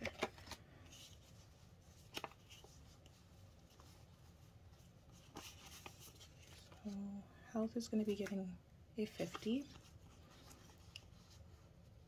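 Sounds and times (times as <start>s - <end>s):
banknotes rustling and tapping: 0.0s - 7.0s, 7.9s - 11.6s.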